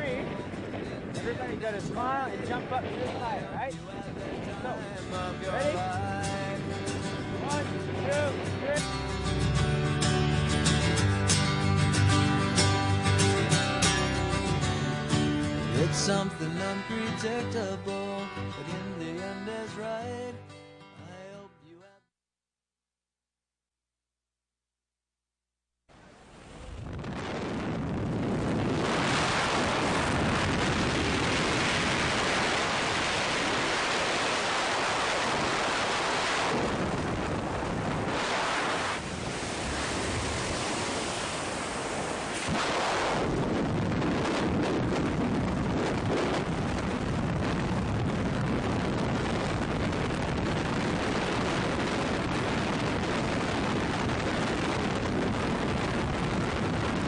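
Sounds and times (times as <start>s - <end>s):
wind noise on microphone: 0.0s - 20.2s, 26.0s - 57.0s.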